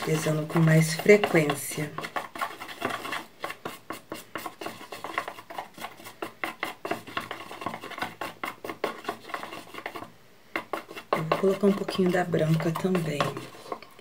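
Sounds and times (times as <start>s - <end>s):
utensil stirring and scraping clay: 0.0s - 14.0s.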